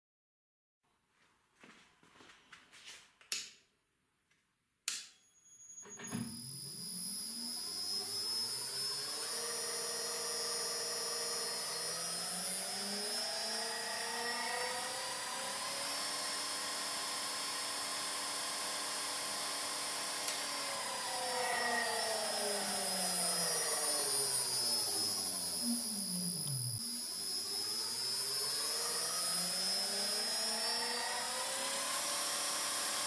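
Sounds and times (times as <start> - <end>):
small motor spinning: 6.1 - 33.0.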